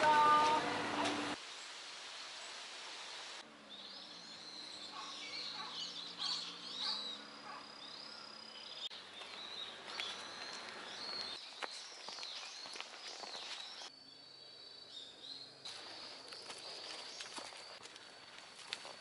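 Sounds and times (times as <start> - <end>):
wild birds chirping: 3.5 - 19.0.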